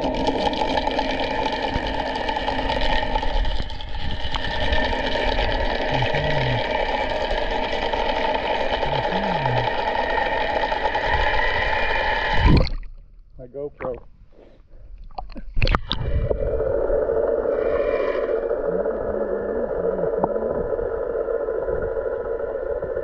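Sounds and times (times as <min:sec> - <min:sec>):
pool cleaner pump hum: 0:00.0 - 0:12.5, 0:16.2 - 0:23.0.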